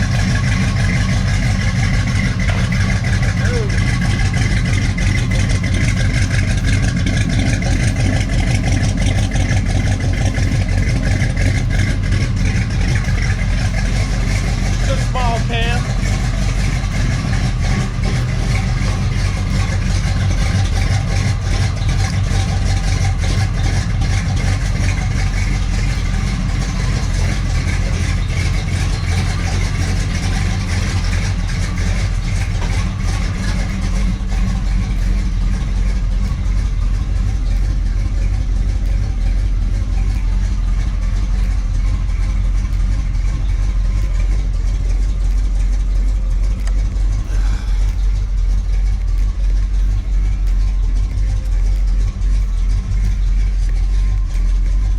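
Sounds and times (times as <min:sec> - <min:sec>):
car engine idling: 0:00.0 - 0:54.9.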